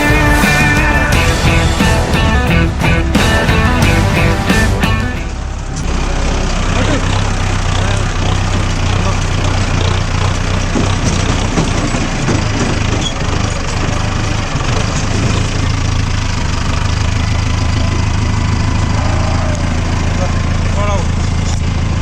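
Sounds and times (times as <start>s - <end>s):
knocks and rattles: 0.0s - 18.9s
tractor diesel engine running: 0.0s - 22.0s.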